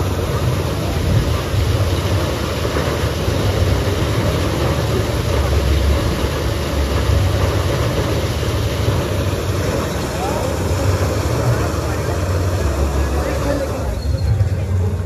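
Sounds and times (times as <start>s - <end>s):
even hiss: 0.0s - 15.0s
steady low rumble: 0.0s - 15.0s.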